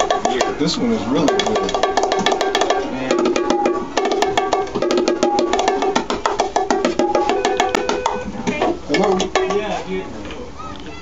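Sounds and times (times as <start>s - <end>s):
bongos played by hand: 0.0s - 9.8s.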